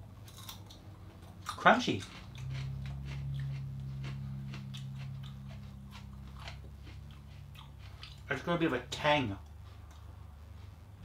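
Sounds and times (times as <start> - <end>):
crunchy chewing: 0.0 - 11.0
low hum: 0.0 - 11.0.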